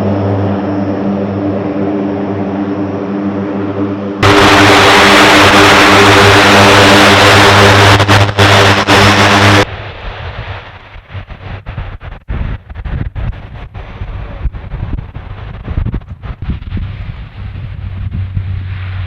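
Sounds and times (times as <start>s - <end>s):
aircraft engine noise: 0.0s - 19.0s
wind noise on microphone: 0.0s - 19.0s.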